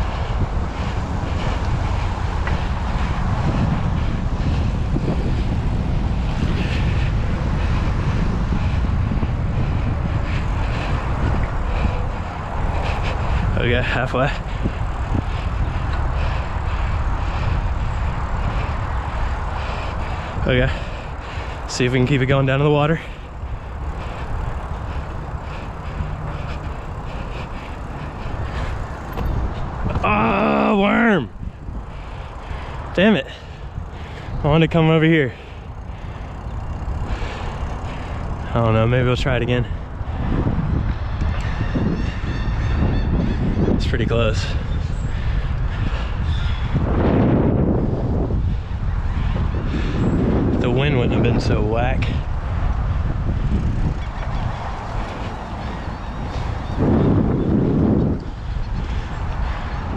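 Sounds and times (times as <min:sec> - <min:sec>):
bicycle tyres rolling on pavement: 0:00.0 - 0:59.9
wind buffeting microphone: 0:00.0 - 0:59.9.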